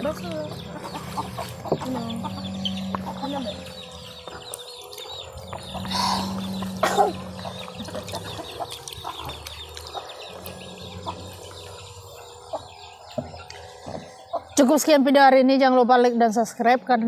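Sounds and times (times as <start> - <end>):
chickens clucking: 0.0 - 14.8
low hum: 0.0 - 15.9.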